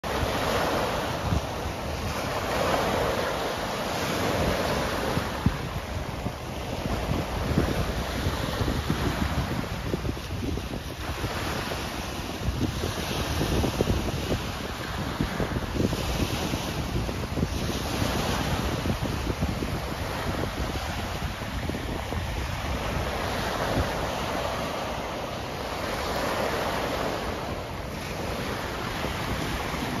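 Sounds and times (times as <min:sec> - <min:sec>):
wind on microphone: 0:00.0 - 0:30.0
waves washing onto pebble beach: 0:00.1 - 0:30.0.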